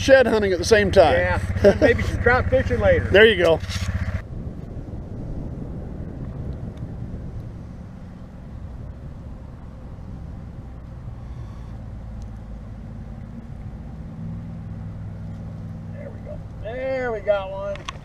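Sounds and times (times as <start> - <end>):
low engine hum: 0.0 - 18.0
low rumble: 0.2 - 18.0.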